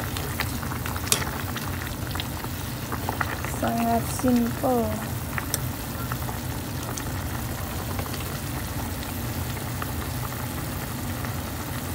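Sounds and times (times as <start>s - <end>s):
soup boiling in a pot: 0.0s - 11.9s.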